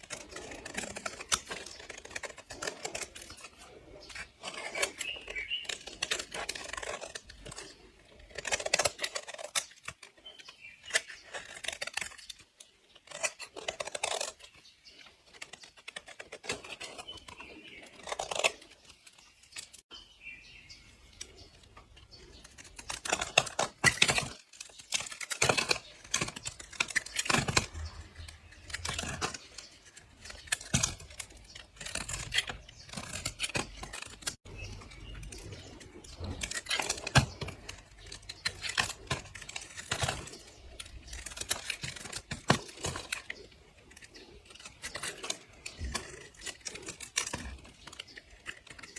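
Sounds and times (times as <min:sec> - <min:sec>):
blade slicing dry soap: 0:00.0 - 0:19.9, 0:21.2 - 0:48.9.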